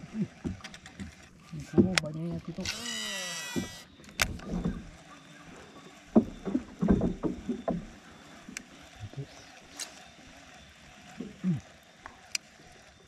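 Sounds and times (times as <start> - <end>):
fishing reel spool whirring: 0.0 - 13.0.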